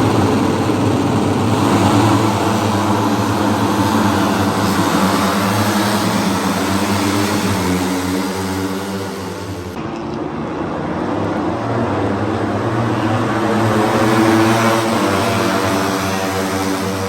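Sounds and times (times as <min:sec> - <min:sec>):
racing motorcycle engines droning: 0:00.0 - 0:17.0.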